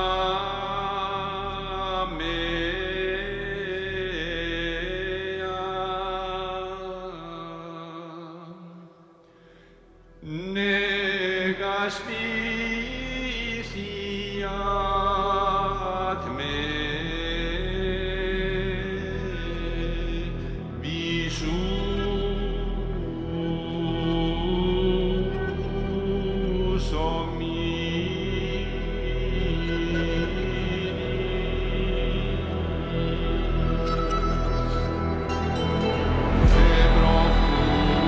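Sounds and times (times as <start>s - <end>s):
low drone: 0.0s - 7.5s, 9.4s - 38.0s
slow sung chant: 0.0s - 38.0s.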